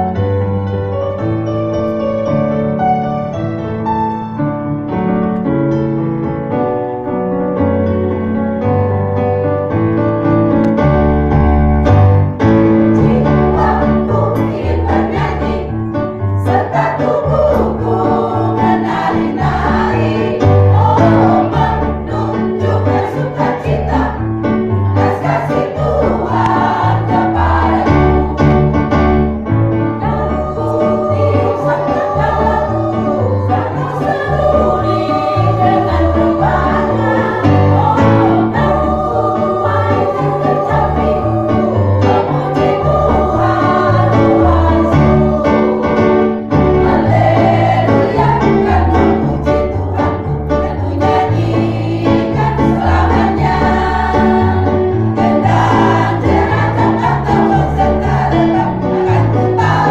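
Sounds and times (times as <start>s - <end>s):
choir singing in harmony: 0.0s - 5.0s, 10.2s - 59.9s
keyboard accompaniment: 0.0s - 59.9s.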